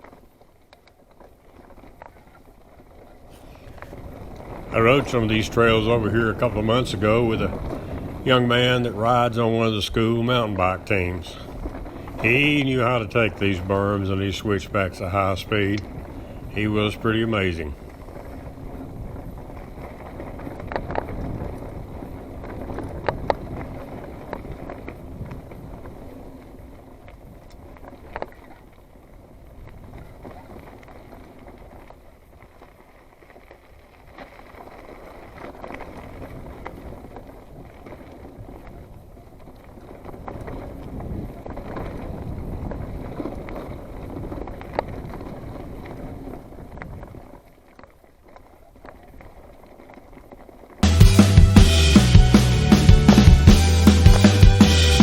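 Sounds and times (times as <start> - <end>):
bike clicks and rattles: 0.0 - 8.2, 9.0 - 14.2, 17.7 - 50.8
bike tire rolling on dirt: 0.0 - 55.0
wind on microphone: 1.6 - 32.8, 34.1 - 47.5.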